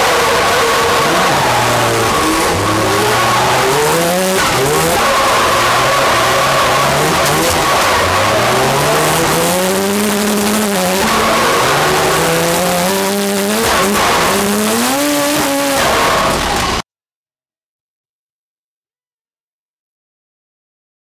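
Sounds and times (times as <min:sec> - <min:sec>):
car engine revving hard: 0:00.0 - 0:16.8
tyres squealing: 0:00.0 - 0:16.8.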